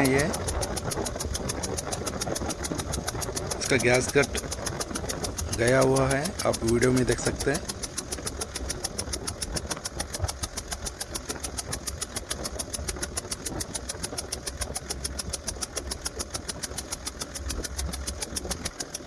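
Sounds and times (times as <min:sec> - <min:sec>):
diesel engine idling with ticking: 0:00.0 - 0:19.0.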